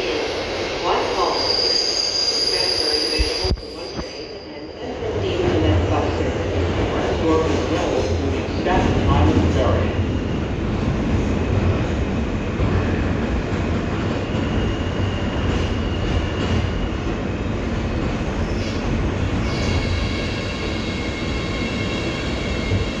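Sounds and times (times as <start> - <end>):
subway car rumbling on rails: 0.0 - 23.0.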